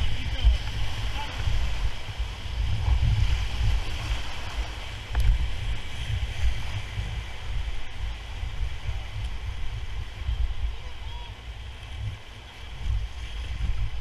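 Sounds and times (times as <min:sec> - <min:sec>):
low rumble: 0:00.0 - 0:14.0
whitewater rushing: 0:00.0 - 0:14.0.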